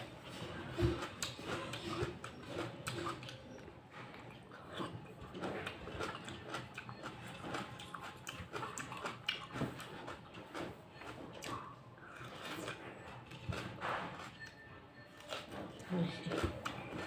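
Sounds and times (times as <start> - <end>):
person chewing tomato: 0.0 - 17.0.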